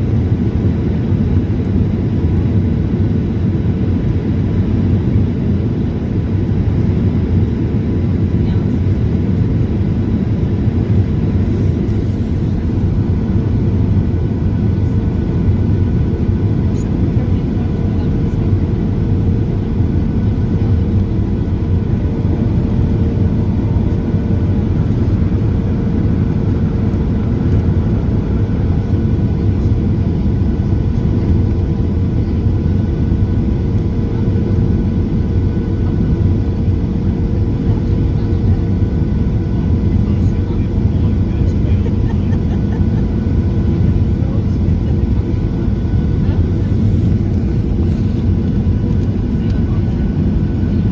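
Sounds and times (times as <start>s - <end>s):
jet engine and airflow rumble: 0.0s - 50.9s.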